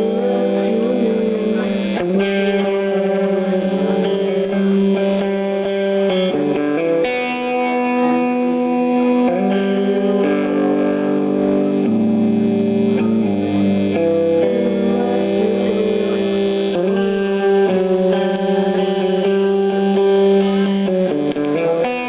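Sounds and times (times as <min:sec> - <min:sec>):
distorted electric guitars droning: 0:00.0 - 0:22.0.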